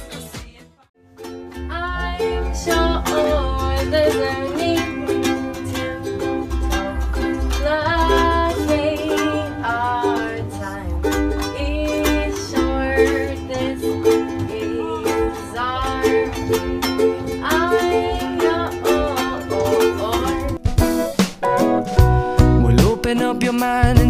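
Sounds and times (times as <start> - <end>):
ukuleles strumming chords: 1.0 - 24.0
person singing: 1.6 - 20.6, 22.6 - 24.0.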